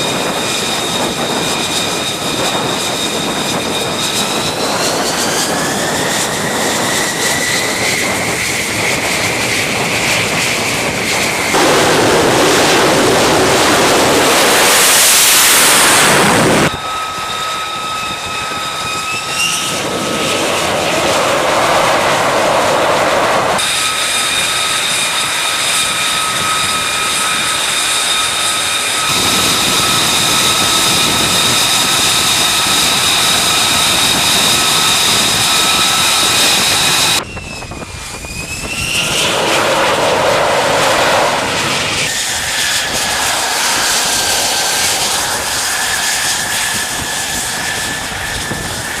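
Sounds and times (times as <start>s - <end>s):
jet turbine whine: 0.0s - 49.0s
loud jet roar: 0.0s - 49.0s.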